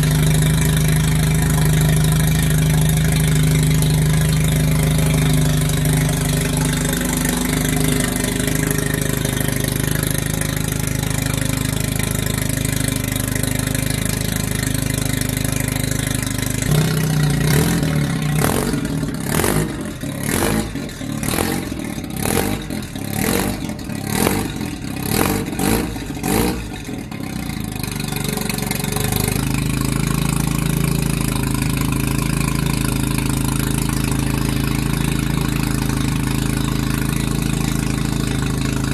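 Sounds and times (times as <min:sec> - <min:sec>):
rotary engine idling and revving: 0:00.0 - 0:38.9.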